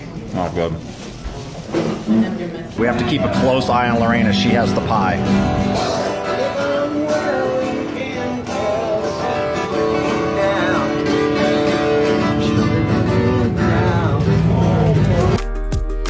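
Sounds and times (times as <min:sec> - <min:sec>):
acoustic guitar strumming: 0:01.7 - 0:16.0
man singing: 0:02.6 - 0:16.0.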